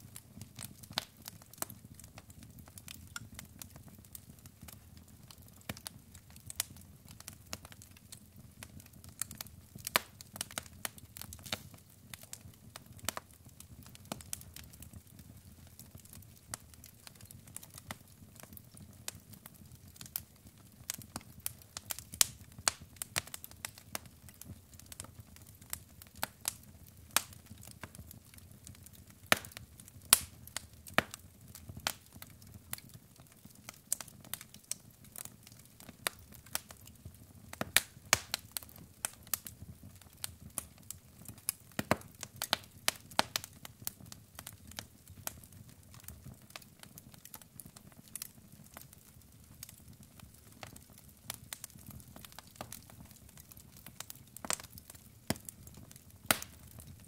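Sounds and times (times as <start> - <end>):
logs crackling and popping: 0.0 - 57.0.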